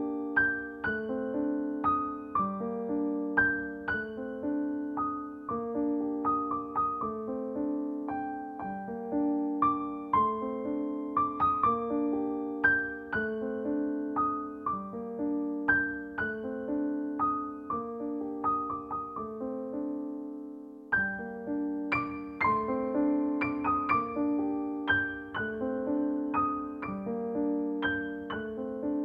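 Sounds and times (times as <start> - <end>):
soft piano music: 0.0 - 29.0.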